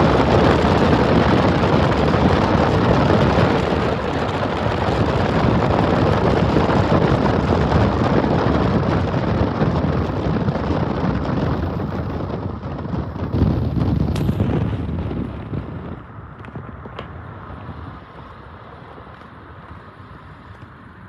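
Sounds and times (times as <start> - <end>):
vehicle rumbling roar: 0.0 - 21.0
wind buffeting microphone: 0.0 - 21.0.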